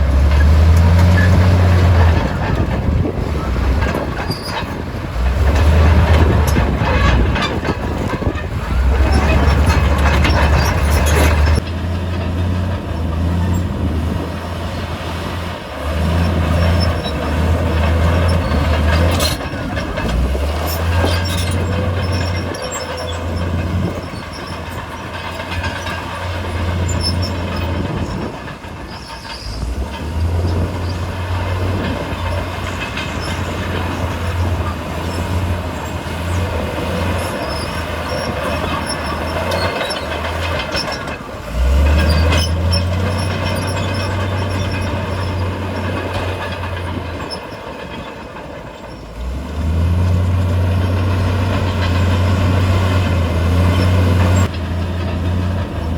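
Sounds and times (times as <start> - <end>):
clanking and scraping of steel: 0.0 - 55.9
heavy diesel machinery engine: 0.0 - 55.9.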